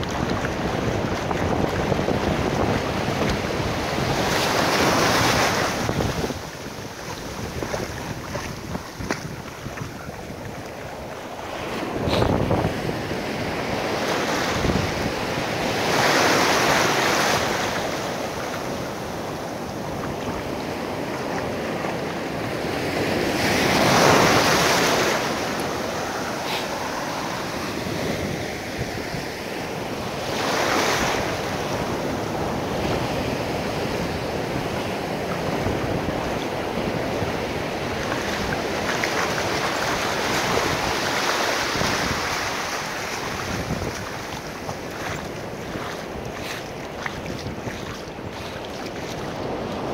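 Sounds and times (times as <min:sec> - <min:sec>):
ocean surf washing up beach: 0:00.0 - 0:49.9.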